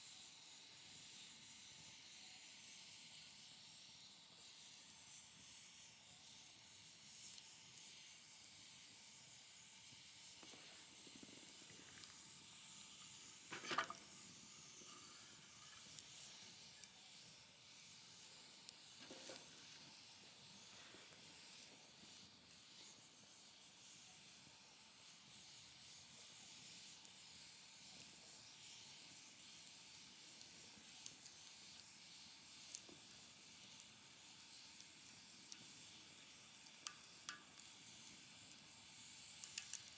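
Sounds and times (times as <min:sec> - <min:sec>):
campfire hissing and crackling: 0:00.0 - 0:39.9.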